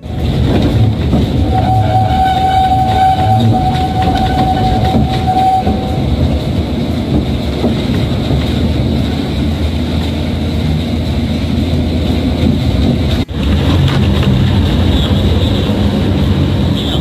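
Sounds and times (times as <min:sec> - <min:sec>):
tram engine and wheels rumbling: 0:00.0 - 0:17.0.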